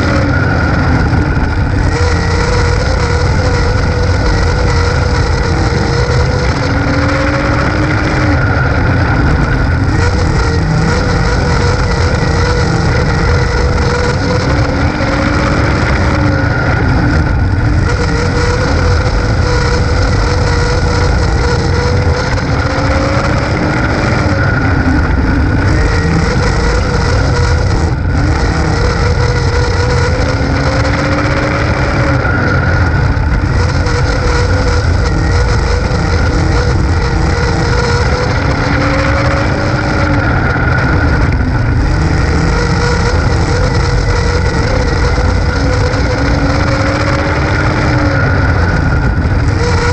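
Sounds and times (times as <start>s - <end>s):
chassis rumble: 0.0s - 49.9s
heavy wind: 0.0s - 49.9s
race car engine running hard: 0.0s - 49.9s.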